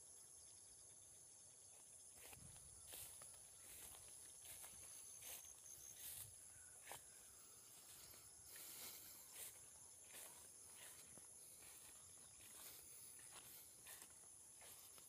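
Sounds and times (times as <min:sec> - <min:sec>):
insects chirring: 0:00.0 - 0:15.0
footsteps through grass: 0:01.8 - 0:15.0.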